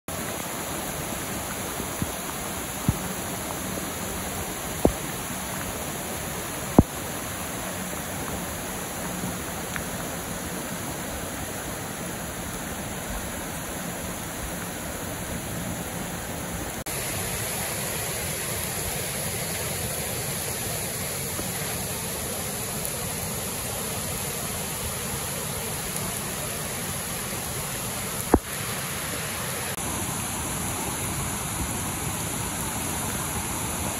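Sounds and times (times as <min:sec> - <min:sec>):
flooded creek rushing over rocks: 0:00.1 - 0:33.9.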